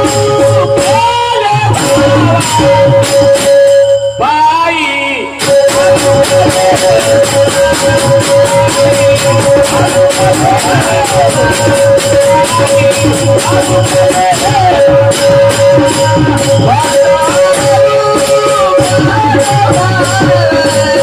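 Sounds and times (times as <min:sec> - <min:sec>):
drum: 0:00.0 - 0:04.4, 0:05.4 - 0:21.0
jingling hand percussion: 0:00.0 - 0:21.0
man singing devotional song: 0:00.0 - 0:21.0.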